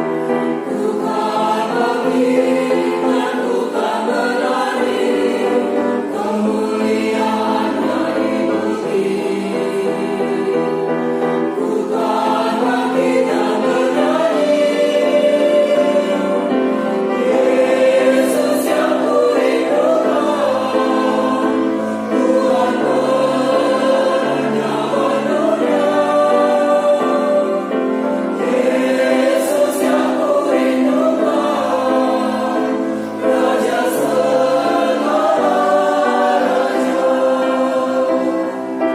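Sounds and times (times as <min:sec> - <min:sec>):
choir singing sustained chords: 0:00.0 - 0:38.9.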